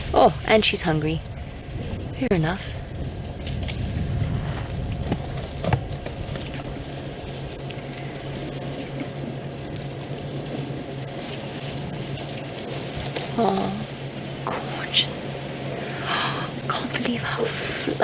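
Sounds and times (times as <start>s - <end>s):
dry twigs and leaves crackling: 0.0s - 18.0s
low steady hum: 0.0s - 18.0s.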